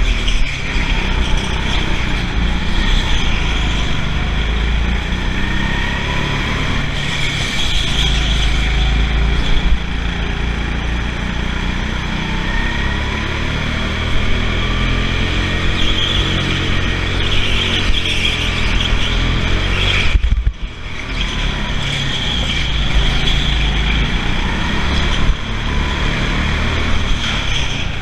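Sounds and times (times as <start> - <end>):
go-kart engine at speed: 0.0 - 28.0.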